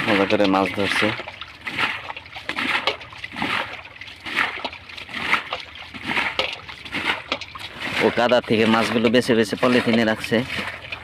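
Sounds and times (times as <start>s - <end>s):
splashing in shallow muddy water: 0.0s - 11.0s.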